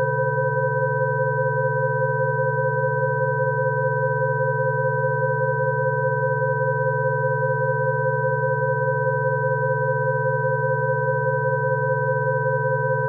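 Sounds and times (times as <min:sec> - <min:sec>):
steady electronic sine tones: 0:00.0 - 0:13.0.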